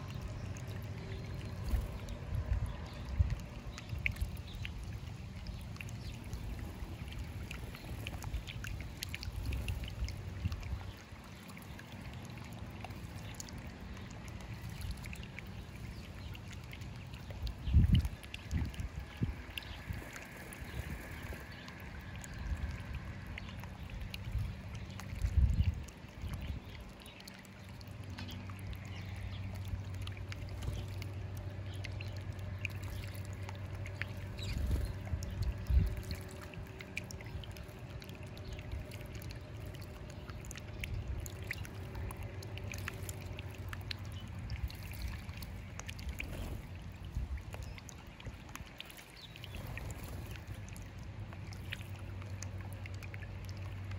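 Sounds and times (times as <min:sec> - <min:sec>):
birds splashing in water: 0:00.0 - 0:53.9
fountain water trickling and bubbling: 0:00.0 - 0:53.9
low steady hum: 0:00.0 - 0:53.9.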